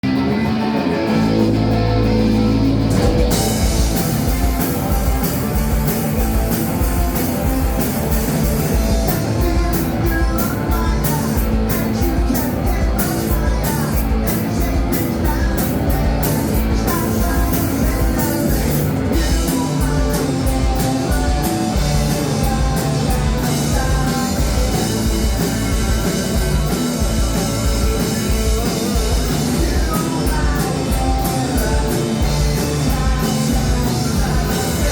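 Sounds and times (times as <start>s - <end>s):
drums and cymbals beat: 0.0s - 34.9s
indie rock band playing live: 0.0s - 34.9s.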